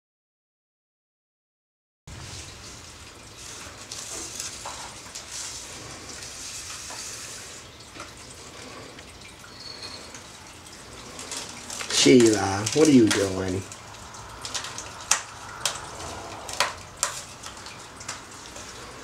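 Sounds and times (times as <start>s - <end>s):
plastic bag rustling and crackling: 2.1s - 19.0s.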